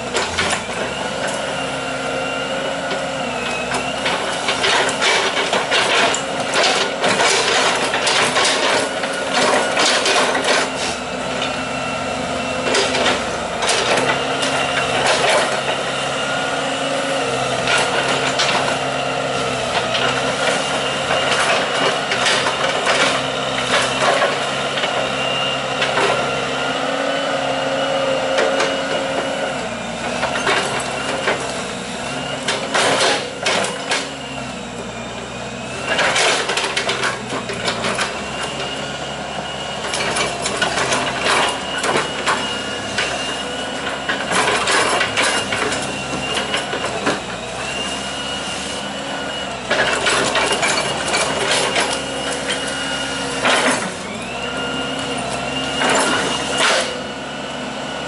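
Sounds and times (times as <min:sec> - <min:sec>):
excavator diesel engine running: 0:00.0 - 0:58.0
hydraulic whine: 0:00.0 - 0:58.0.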